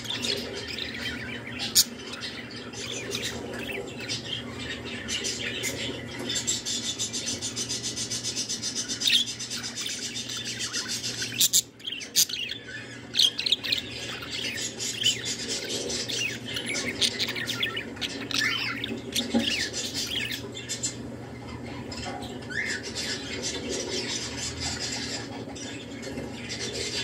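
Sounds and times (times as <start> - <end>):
budgerigar chattering and warbling: 0.0 - 25.8.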